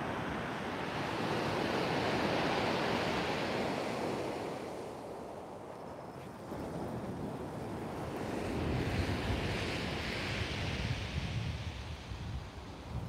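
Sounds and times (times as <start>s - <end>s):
surf washing up shingle beach: 0.0s - 13.0s.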